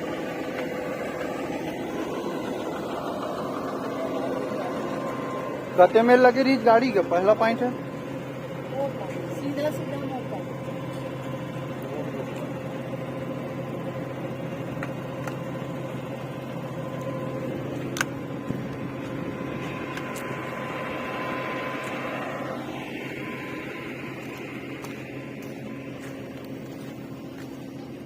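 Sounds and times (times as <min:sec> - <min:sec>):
drilling rig engine running: 0:00.0 - 0:28.0.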